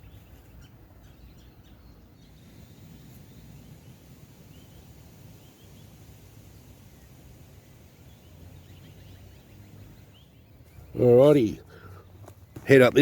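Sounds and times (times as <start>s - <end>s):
faint bird chirps: 0.0s - 12.3s
low outdoor rumble: 0.0s - 13.0s.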